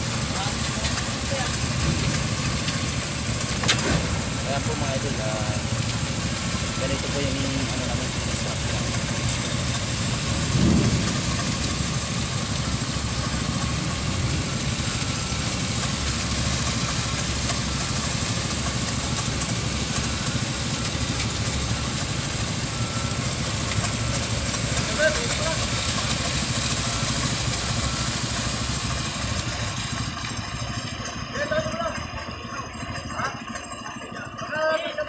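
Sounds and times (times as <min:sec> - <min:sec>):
concrete pouring down chute: 0:00.0 - 0:35.0
diesel engine running: 0:00.0 - 0:35.0.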